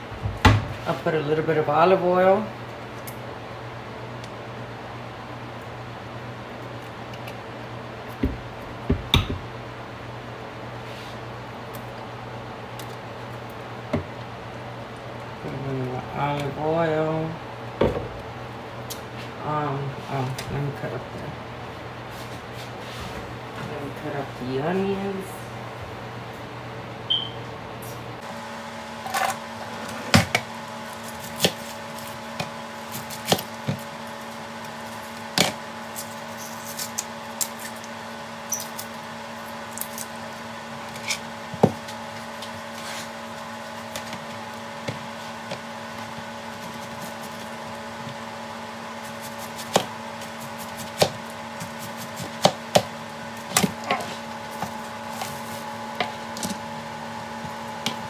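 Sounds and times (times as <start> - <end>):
kitchen appliance hum: 0.0 - 58.0.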